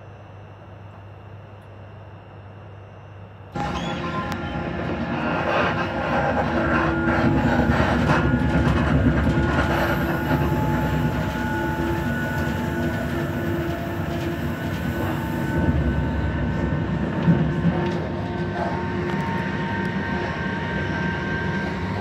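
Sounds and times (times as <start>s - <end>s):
faint whining tones: 0.0s - 22.0s
train wheels rumbling on rails: 3.6s - 22.0s.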